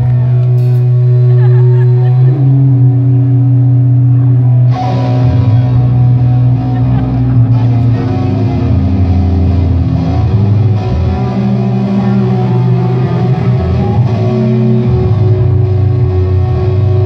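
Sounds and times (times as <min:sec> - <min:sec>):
bass guitar: 0:00.0 - 0:17.0
distorted electric guitars: 0:00.0 - 0:17.0
live rock band playing: 0:00.0 - 0:17.0.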